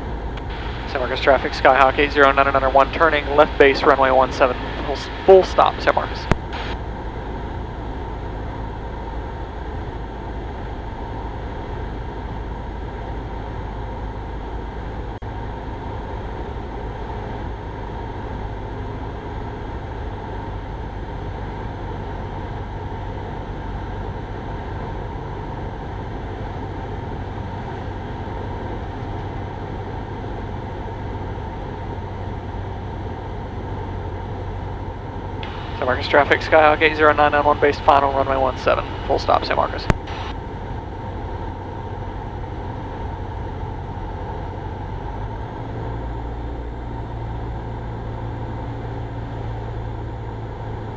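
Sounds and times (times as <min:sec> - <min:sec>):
aircraft engine and propeller droning: 0:00.0 - 0:50.9.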